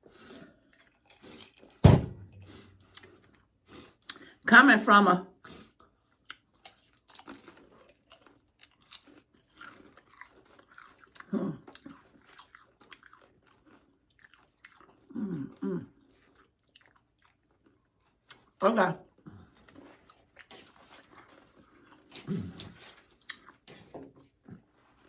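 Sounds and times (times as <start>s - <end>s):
crunching and chewing chips: 0.0s - 4.5s, 5.4s - 25.0s.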